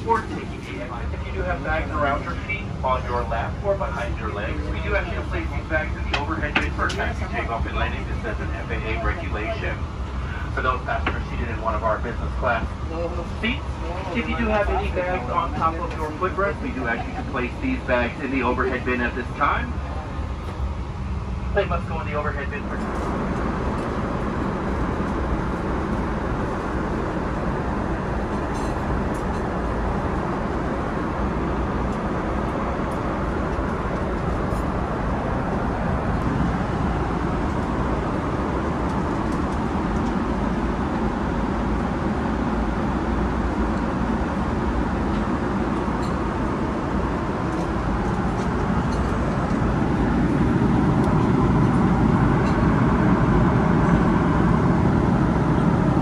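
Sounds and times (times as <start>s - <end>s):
airplane cabin noise: 0.0s - 56.0s.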